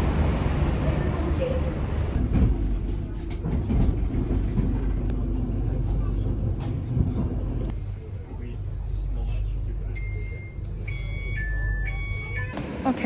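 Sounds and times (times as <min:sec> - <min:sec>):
vehicle rumble from inside: 0:00.0 - 0:13.0.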